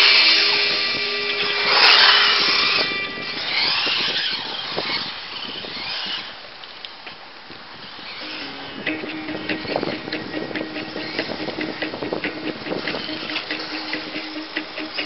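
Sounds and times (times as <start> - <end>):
rc truck motor whining: 0.0 - 7.0, 7.7 - 15.0.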